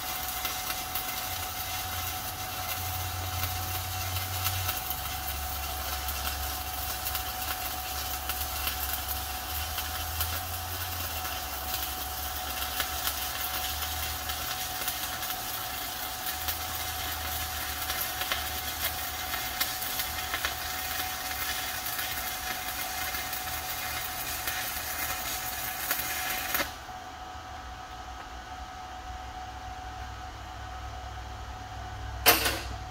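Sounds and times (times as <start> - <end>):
welding arc crackling and sizzling: 0.0 - 32.9.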